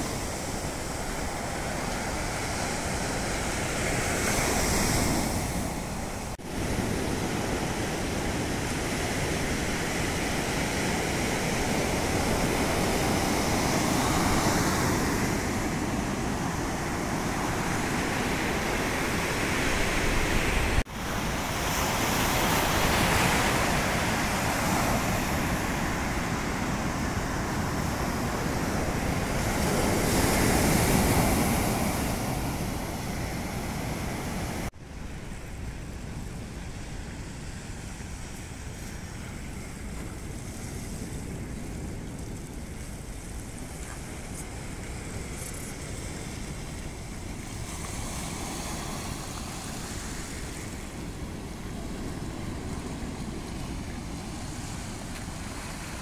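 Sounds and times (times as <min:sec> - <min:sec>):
surf breaking on sandy beach: 0:00.0 - 0:56.0.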